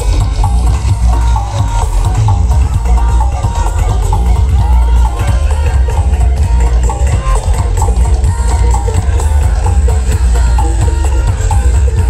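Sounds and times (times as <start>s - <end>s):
loud bass-heavy music over speakers: 0.0s - 12.0s.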